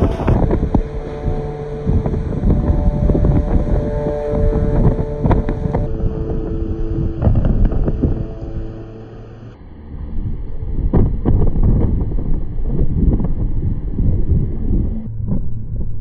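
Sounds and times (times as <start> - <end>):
moving train rumble: 0.0 - 16.0
steady hum tones: 0.0 - 16.0
wind buffeting microphone: 0.0 - 16.0.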